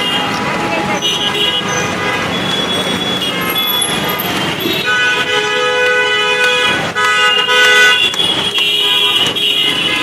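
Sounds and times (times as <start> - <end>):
street traffic noise: 0.0 - 10.0
vehicle horns honking: 0.0 - 10.0.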